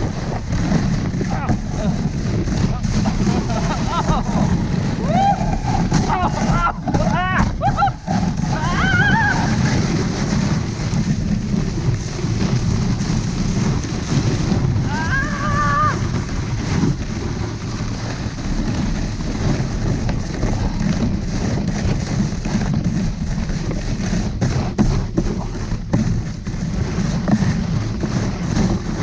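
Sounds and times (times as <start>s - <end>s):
sled runners scraping over snow: 0.0s - 29.0s
wind buffeting microphone: 0.0s - 29.0s.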